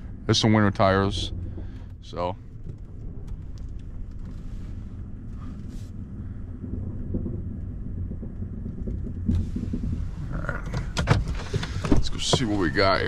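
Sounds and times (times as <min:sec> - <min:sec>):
knocks and rattles: 0:00.0 - 0:13.0
van engine and road rumble: 0:00.0 - 0:13.0.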